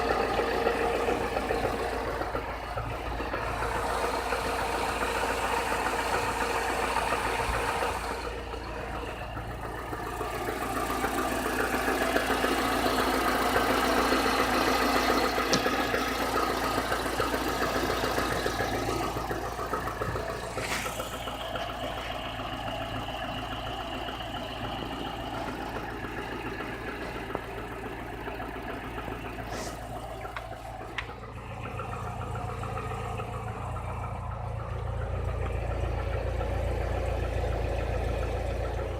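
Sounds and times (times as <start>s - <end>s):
car engine knocking: 0.0s - 38.9s.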